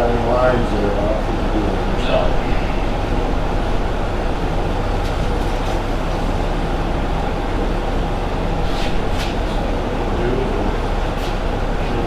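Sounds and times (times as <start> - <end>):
machine running loudly: 0.0 - 12.0.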